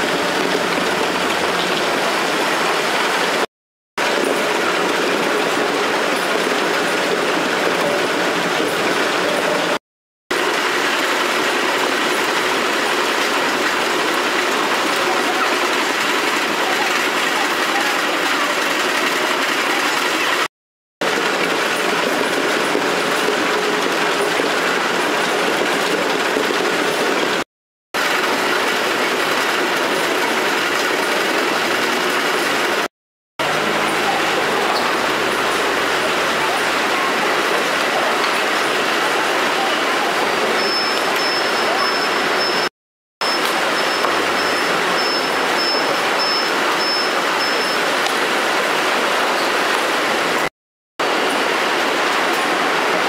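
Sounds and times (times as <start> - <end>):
machinery running: 0.0 - 3.4, 4.0 - 27.4, 28.0 - 48.4.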